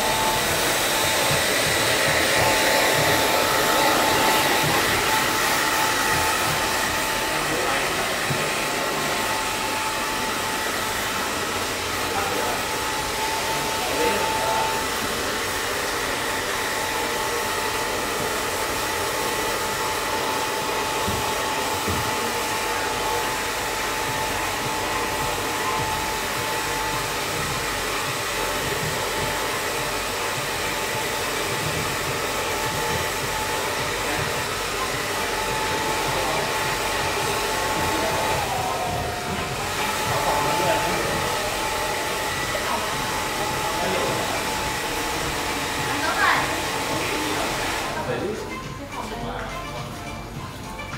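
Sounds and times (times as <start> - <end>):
hair dryer running: 0.0 - 50.9.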